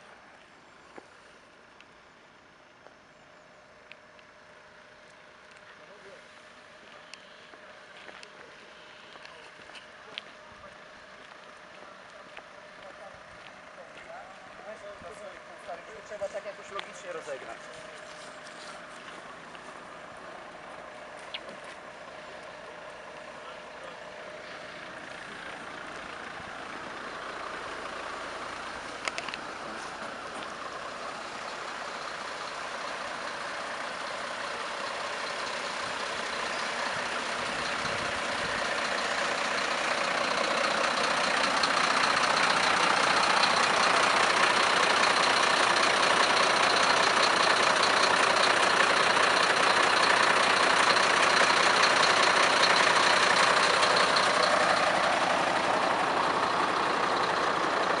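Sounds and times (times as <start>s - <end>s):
fire engine idling: 0.0s - 58.0s.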